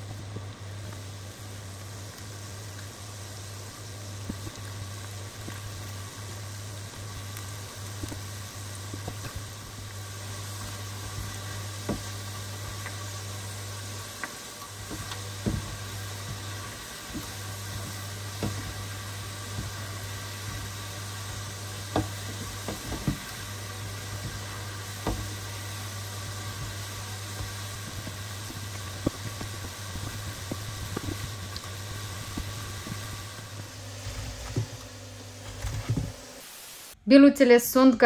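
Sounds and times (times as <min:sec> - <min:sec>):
oil sizzling: 0:00.0 - 0:37.0.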